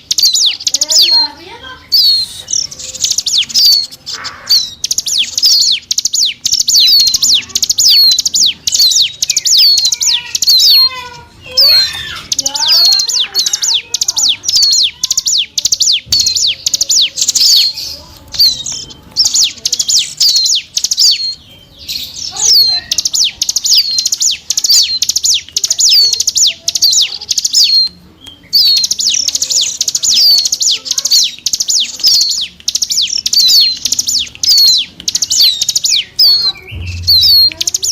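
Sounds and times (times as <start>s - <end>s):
bird high hooked chirps: 0.0s - 37.9s
bird twittering phrase: 0.0s - 37.9s.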